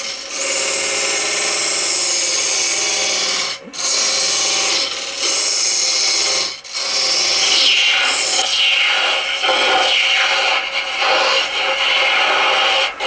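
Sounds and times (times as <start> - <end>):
lathe tool scraping spinning wood: 0.0 - 13.0.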